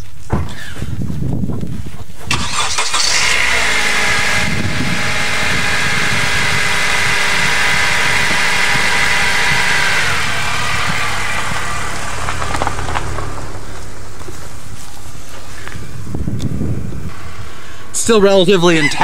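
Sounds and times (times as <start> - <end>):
car engine idling: 2.3 - 18.6.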